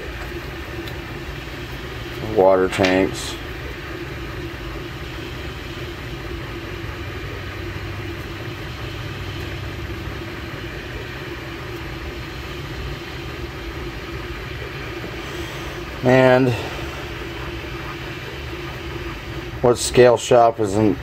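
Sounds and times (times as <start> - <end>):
three-d printer humming: 0.0 - 21.0.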